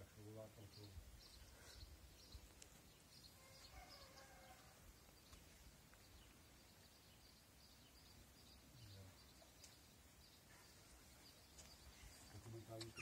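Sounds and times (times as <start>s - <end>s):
faint small birds chirping: 0.0s - 13.0s.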